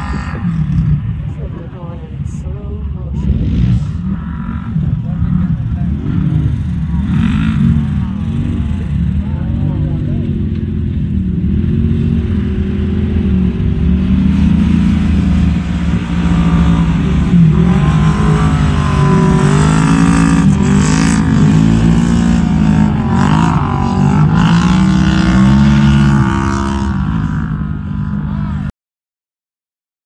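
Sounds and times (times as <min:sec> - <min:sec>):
turbocharged engine revving: 0:03.0 - 0:28.7.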